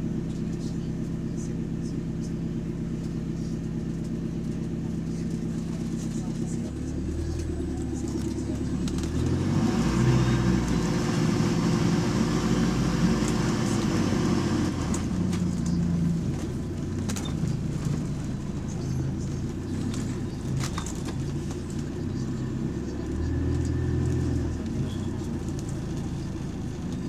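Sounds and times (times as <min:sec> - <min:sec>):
diesel bus engine droning: 0:00.0 - 0:27.0.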